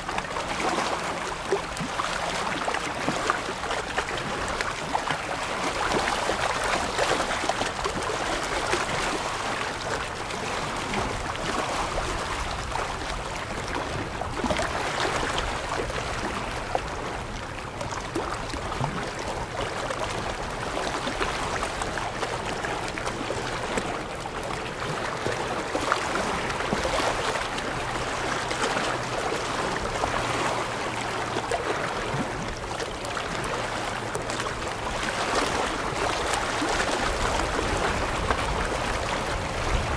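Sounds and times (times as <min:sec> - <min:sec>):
small waves lapping over rocks: 0:00.0 - 0:39.9.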